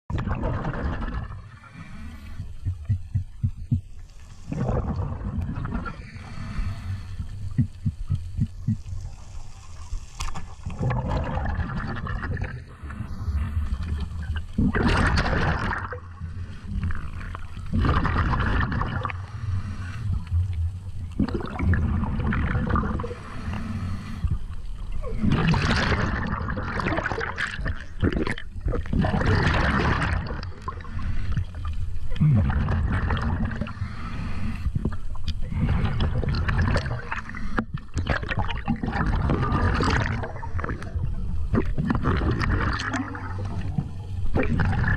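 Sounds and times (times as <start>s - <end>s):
muffled underwater water noise: 0.0s - 44.9s.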